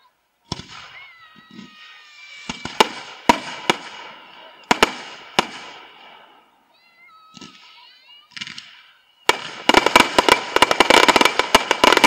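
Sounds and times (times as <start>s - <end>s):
fireworks hiss and crackle: 0.0s - 12.0s
fireworks shells bursting: 0.5s - 6.5s, 7.2s - 12.0s.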